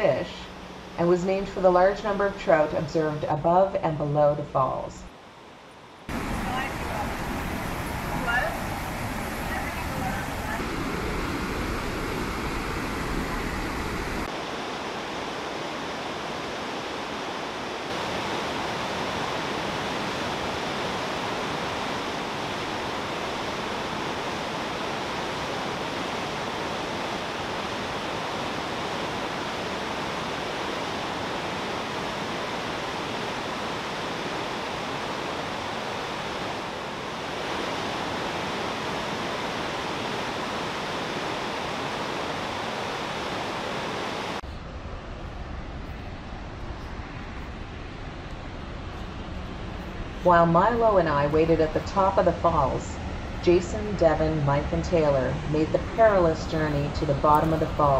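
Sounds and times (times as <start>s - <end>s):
waterfall and rapids rushing: 5.1s - 57.9s.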